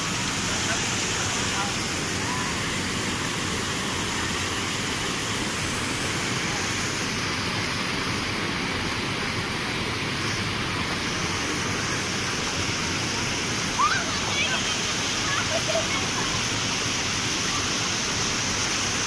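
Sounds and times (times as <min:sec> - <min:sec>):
water rushing over weir: 0:00.0 - 0:19.0.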